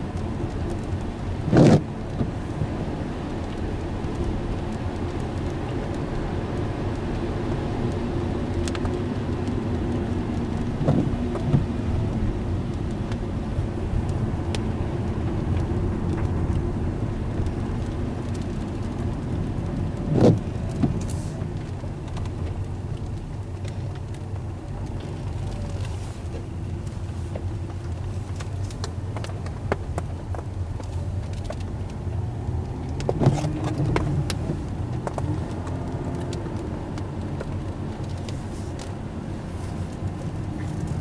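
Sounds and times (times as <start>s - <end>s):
car engine and tyre rumble: 0.0s - 41.0s
wet road noise: 0.0s - 41.0s.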